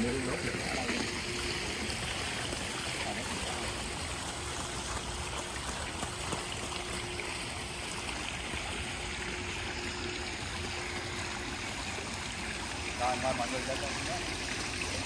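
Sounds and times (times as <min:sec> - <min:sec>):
water spilling over pool edge: 0:00.0 - 0:15.0.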